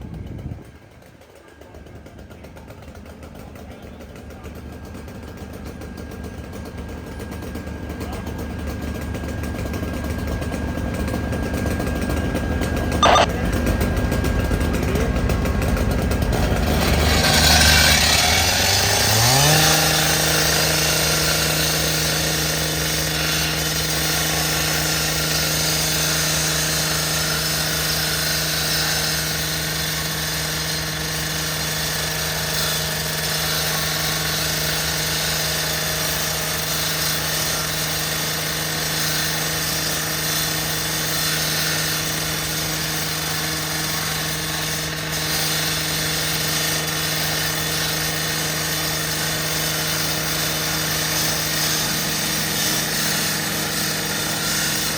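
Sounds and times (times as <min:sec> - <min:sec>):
small petrol engine revving: 0:07.6 - 0:54.9.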